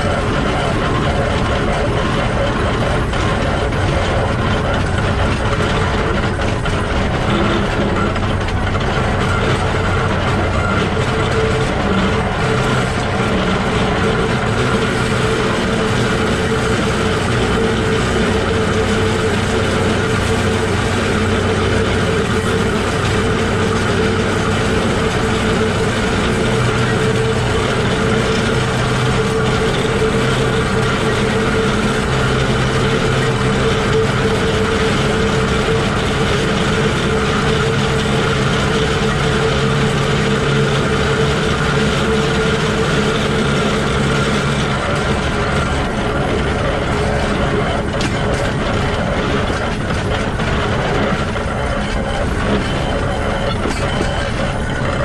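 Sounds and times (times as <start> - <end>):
steam locomotive gears running: 0.0 - 55.0.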